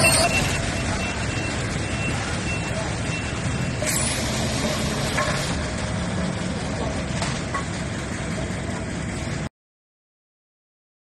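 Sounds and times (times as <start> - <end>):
diesel truck engine rumbling: 0.0 - 9.5.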